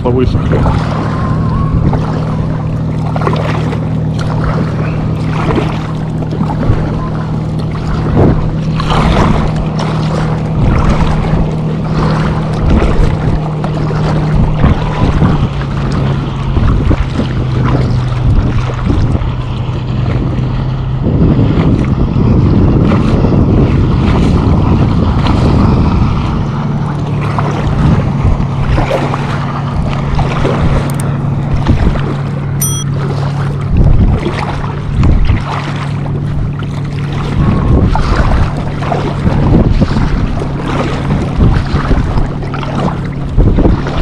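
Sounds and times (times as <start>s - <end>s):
water splashing against a kayak: 0.0s - 44.0s
wind buffeting the microphone: 0.0s - 44.0s.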